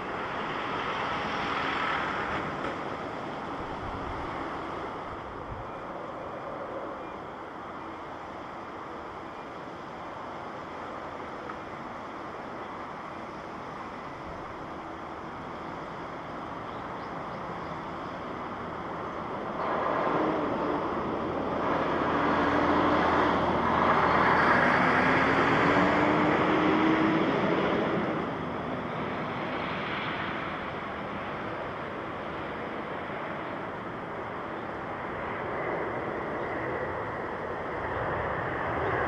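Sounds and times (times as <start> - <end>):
jet airliner passing: 0.0 - 11.2, 11.8 - 39.0
wind: 0.0 - 39.0.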